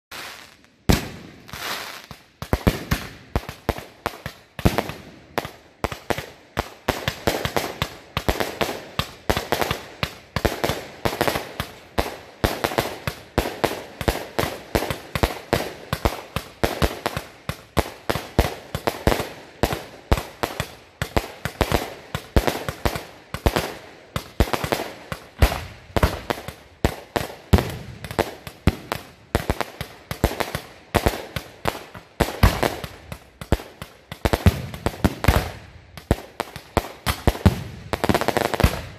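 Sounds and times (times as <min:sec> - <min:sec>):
firework cake shots launching and bursting: 0:00.1 - 0:38.9.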